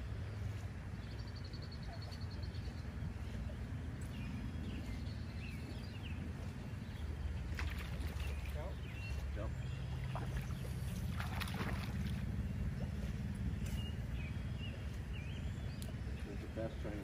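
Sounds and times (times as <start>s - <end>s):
wind rumble on microphone: 0.0s - 16.5s
bird chirps: 0.0s - 17.0s.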